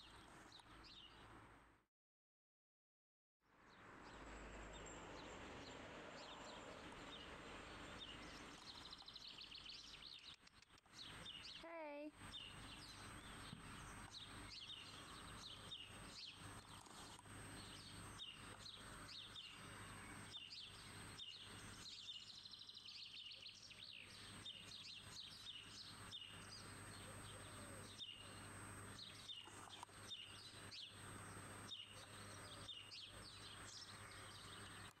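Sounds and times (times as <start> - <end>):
birds chirping: 4.0 - 35.0.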